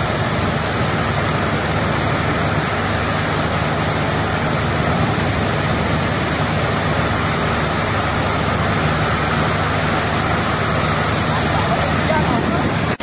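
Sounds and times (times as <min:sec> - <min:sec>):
heavy rain on a paved street: 0:00.0 - 0:13.0.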